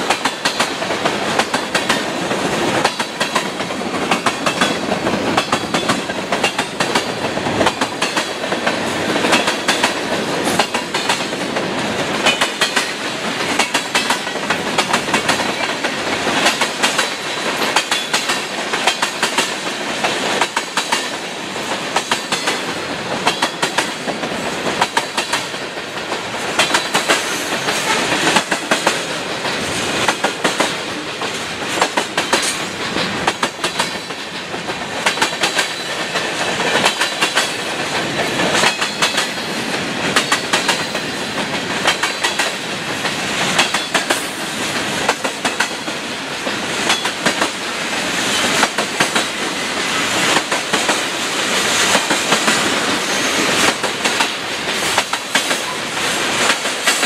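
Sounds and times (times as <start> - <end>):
train rolling noise: 0.0 - 57.0
train wheels clacking over rail joints: 0.0 - 57.0.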